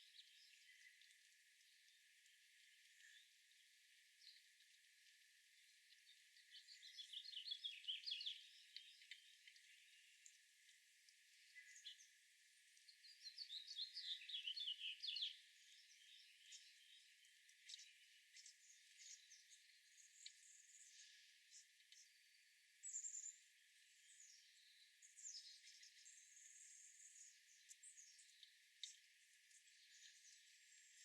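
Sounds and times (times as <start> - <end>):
songbird singing: 0.0 - 4.5, 5.6 - 10.4, 11.3 - 12.2, 12.8 - 31.0.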